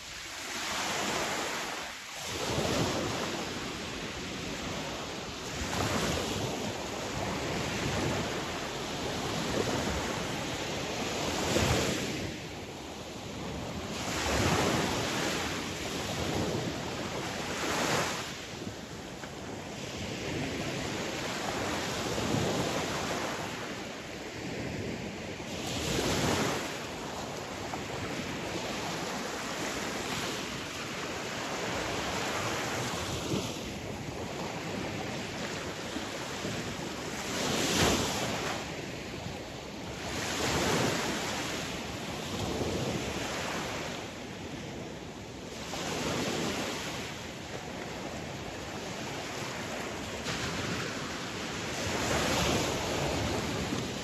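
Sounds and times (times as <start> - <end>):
sea waves breaking: 0.0 - 54.0
wind noise: 0.0 - 54.0.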